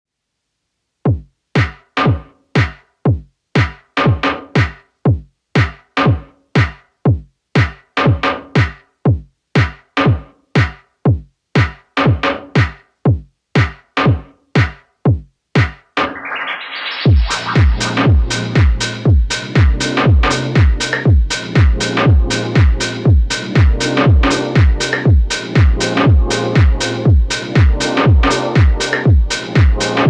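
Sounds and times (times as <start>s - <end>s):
drum machine kick: 1.0s - 16.2s, 17.1s - 30.0s.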